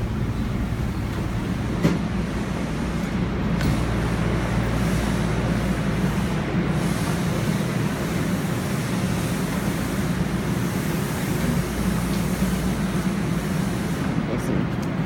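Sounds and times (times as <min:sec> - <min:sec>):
subway platform rumble and hiss: 0:00.0 - 0:15.0.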